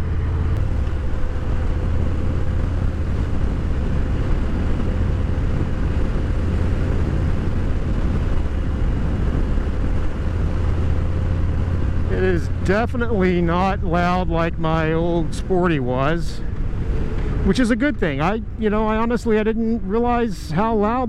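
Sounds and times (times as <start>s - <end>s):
motorcycle engine deep rumble: 0.0s - 21.0s.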